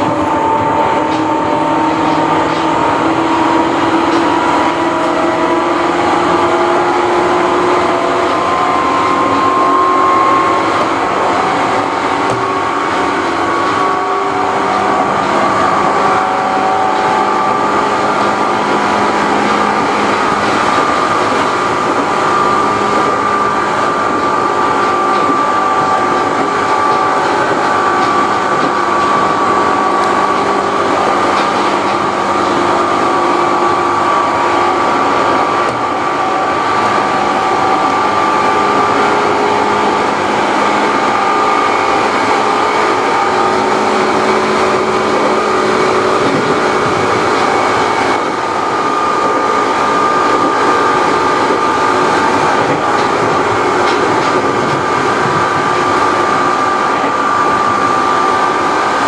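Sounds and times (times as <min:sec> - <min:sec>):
traction motor whine: 0:00.0 - 0:59.0
wheel-on-rail noise: 0:00.0 - 0:59.0.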